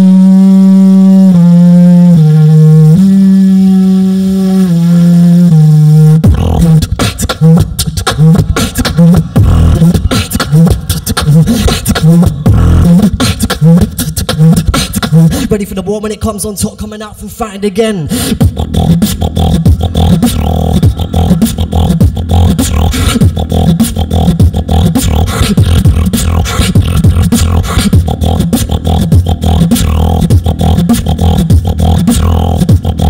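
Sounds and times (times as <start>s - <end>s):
beatboxing through a microphone: 0.0s - 33.0s.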